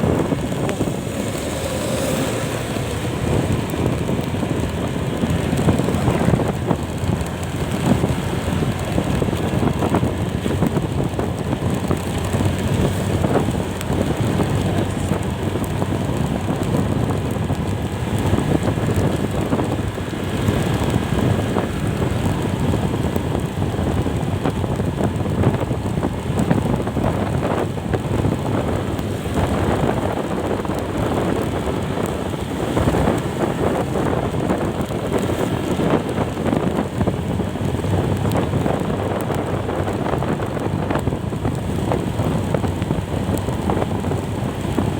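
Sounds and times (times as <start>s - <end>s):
vehicle engine and road noise: 0.0s - 44.9s
wind rushing over microphone: 0.0s - 44.9s.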